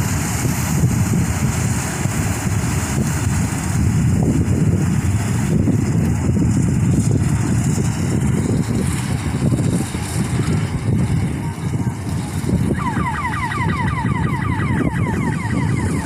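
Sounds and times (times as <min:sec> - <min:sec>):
distant combine harvester running: 0:00.0 - 0:16.0
wind buffeting microphone: 0:00.0 - 0:16.0.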